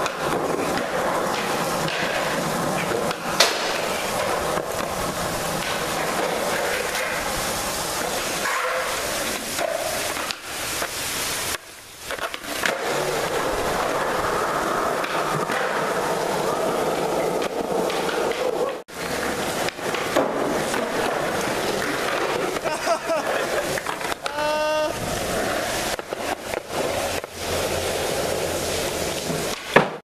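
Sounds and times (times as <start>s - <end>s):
skateboard clacks: 0.0s - 30.0s
skateboard wheels rolling on concrete: 0.0s - 30.0s.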